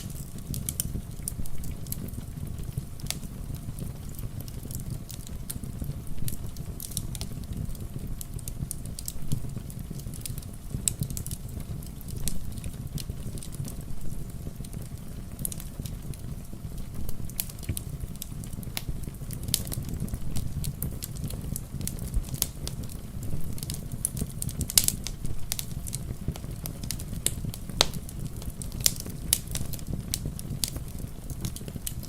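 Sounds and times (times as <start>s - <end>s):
rain patter: 0.0s - 32.0s
wood fire crackling and popping: 0.0s - 32.0s.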